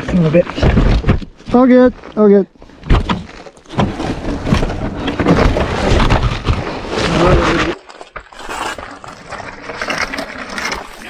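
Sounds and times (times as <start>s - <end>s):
tyre scraping: 0.0s - 11.0s.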